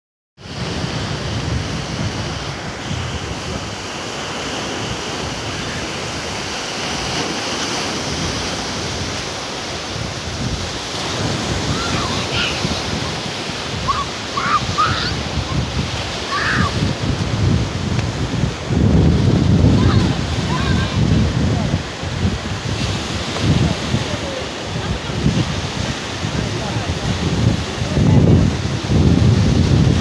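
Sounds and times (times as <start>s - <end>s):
small waves breaking on beach: 0.4s - 30.0s
wind buffeting microphone: 0.4s - 30.0s.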